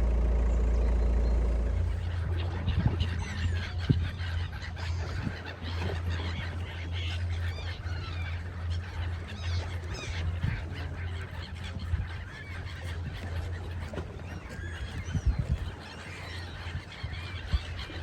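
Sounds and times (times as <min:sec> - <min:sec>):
low steady rumble: 0:00.0 - 0:18.0
seagulls calling: 0:00.0 - 0:18.0.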